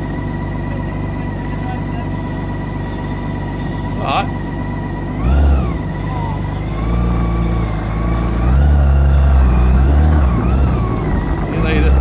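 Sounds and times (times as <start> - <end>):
heavy low rumble: 0.0 - 12.0
motorcycle engine accelerating: 0.0 - 12.0.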